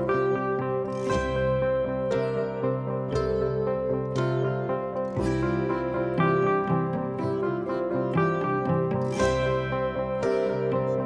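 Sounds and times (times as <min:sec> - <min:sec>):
plucked instrumental music: 0:00.0 - 0:11.0.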